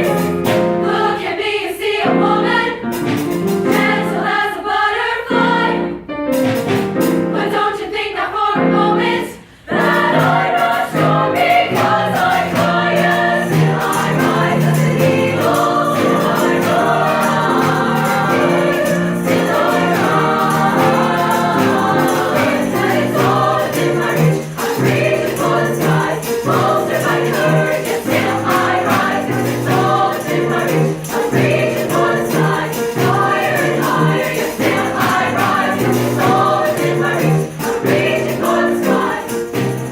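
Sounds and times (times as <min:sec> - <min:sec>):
choir singing: 0:00.0 - 0:06.1, 0:06.9 - 0:39.9.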